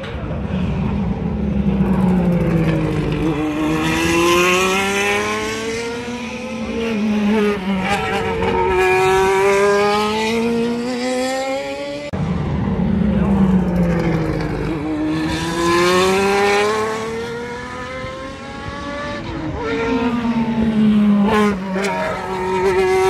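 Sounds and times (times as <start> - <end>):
race cars accelerating past: 0.0 - 23.0.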